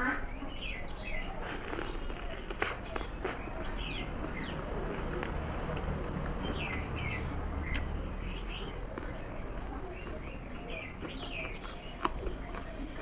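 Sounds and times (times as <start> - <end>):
birds chirping falling calls: 0.0 - 5.0, 5.9 - 13.0
faint chewing click: 1.4 - 13.0.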